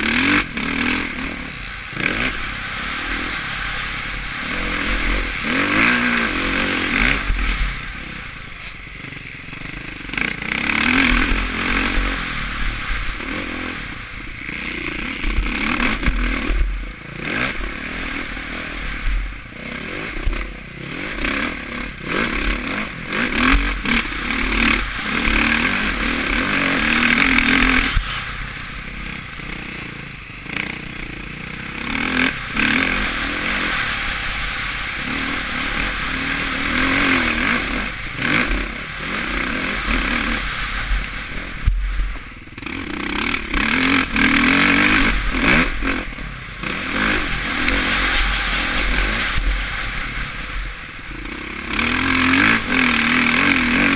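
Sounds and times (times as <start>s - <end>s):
motocross bike engine revving: 0.0s - 53.9s
wind rumble: 0.0s - 53.9s.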